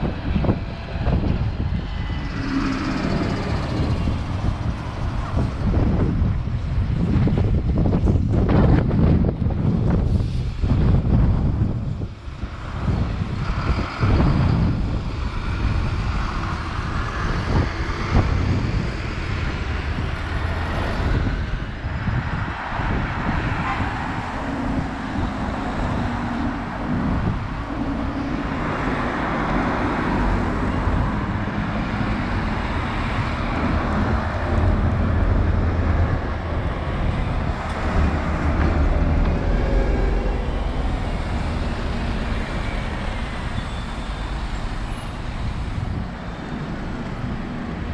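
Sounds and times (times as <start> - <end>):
engine hum: 0.0 - 47.9.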